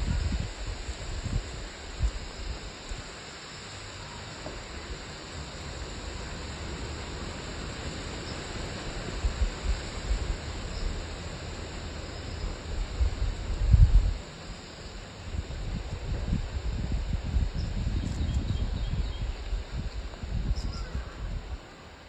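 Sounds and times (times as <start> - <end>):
outdoor background hiss: 0.0 - 22.0
wind rumbling on microphone: 0.0 - 22.0.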